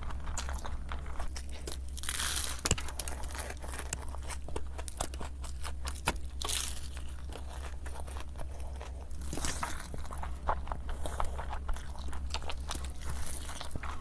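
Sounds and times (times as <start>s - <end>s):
crunching and chewing: 0.0s - 14.0s.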